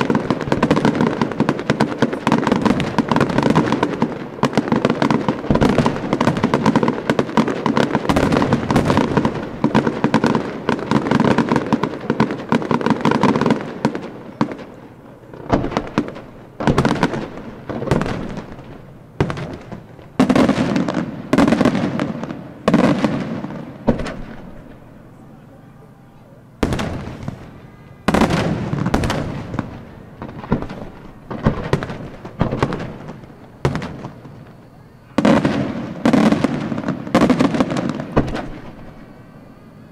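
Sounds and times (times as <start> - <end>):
firework shell bursts echoing: 0.0 - 39.8
fireworks bangs and crackle: 0.0 - 39.9.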